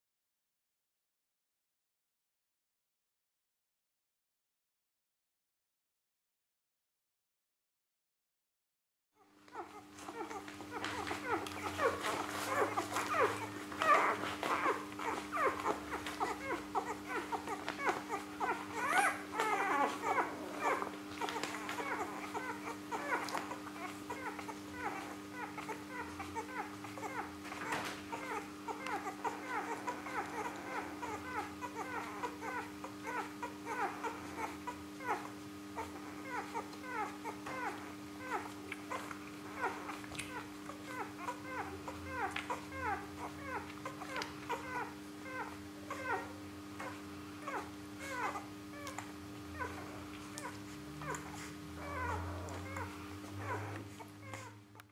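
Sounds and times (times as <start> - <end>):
steady low hum: 9.2 - 54.9
puppies squeaking and whimpering: 9.5 - 54.6.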